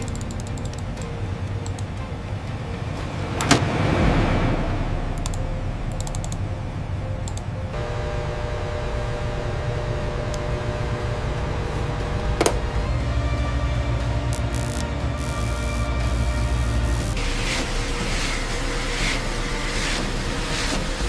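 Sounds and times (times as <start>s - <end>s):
mechanical hum: 0.0s - 21.0s
tonal machine hum: 0.0s - 21.0s.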